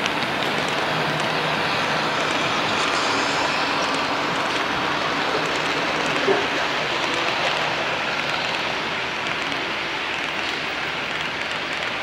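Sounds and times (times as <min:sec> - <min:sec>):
model train cars rolling on track: 0:00.0 - 0:12.0.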